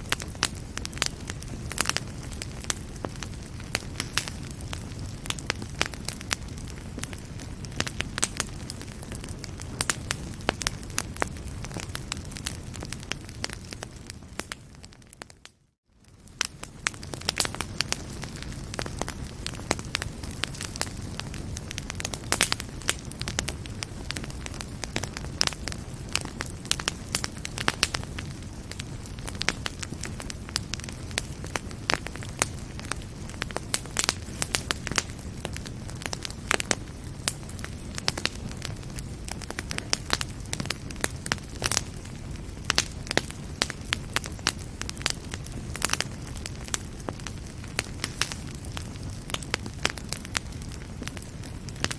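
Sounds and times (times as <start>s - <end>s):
fire crackling and popping: 0.0s - 51.9s
low rumble of flames: 0.0s - 51.9s.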